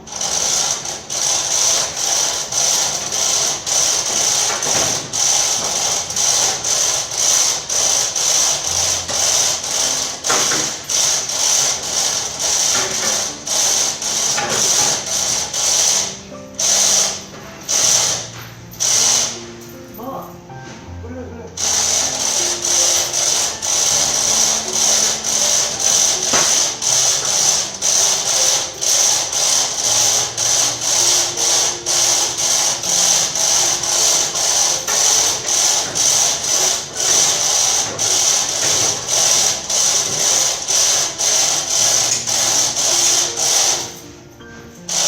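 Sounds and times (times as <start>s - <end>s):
mechanical ratchet clicking: 0.0s - 19.4s, 21.6s - 44.1s.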